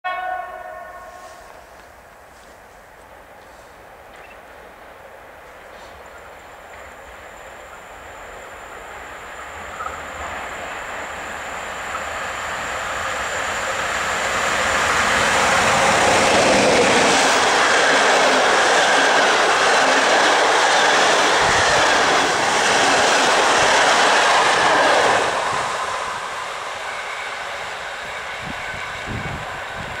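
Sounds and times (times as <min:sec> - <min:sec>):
electric train passing: 0:00.1 - 0:30.0.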